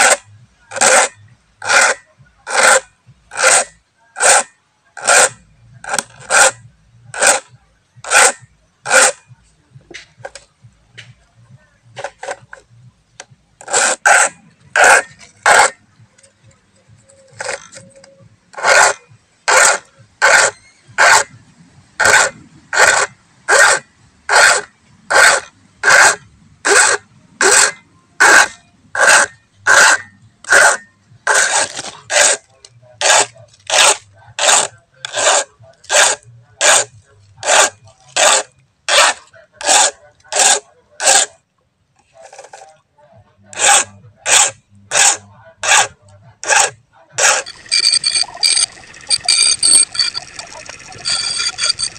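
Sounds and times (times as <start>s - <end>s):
hand file rasping on chain: 0.0s - 9.3s, 11.9s - 12.7s, 13.6s - 21.4s, 22.0s - 41.4s, 43.5s - 51.9s.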